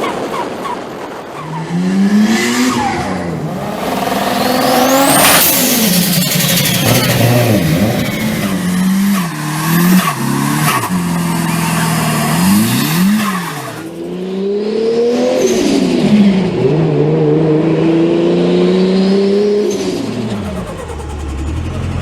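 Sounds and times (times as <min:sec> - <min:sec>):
second car revving: 0:00.0 - 0:22.0
turbocharged car engine revving: 0:00.0 - 0:22.0.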